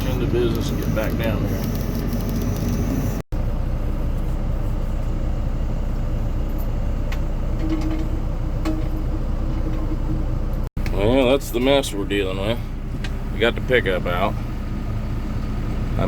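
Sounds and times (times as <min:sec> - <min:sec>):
heavy vehicle engine rumbling: 0:00.0 - 0:16.0.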